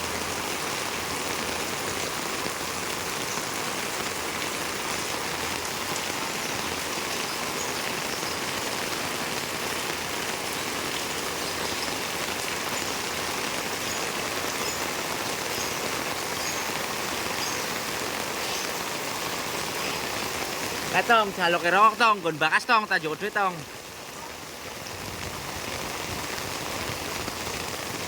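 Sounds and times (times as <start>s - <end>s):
steady rain pattering: 0.0s - 28.0s.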